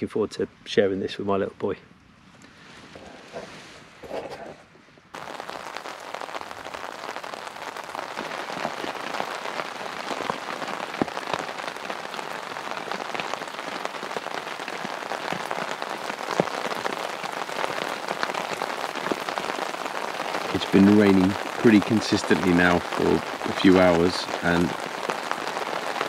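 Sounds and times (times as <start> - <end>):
rain on tent canvas: 5.1 - 26.0.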